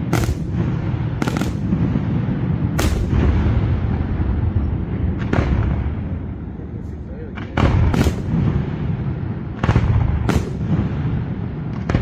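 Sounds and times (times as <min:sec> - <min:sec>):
low rumble of bursts: 0:00.0 - 0:12.0.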